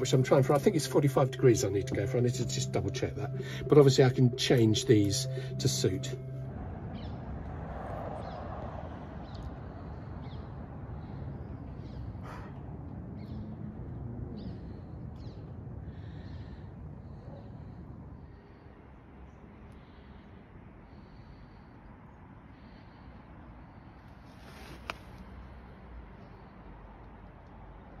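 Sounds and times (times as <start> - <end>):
low rumble of noise: 0.0 - 24.4.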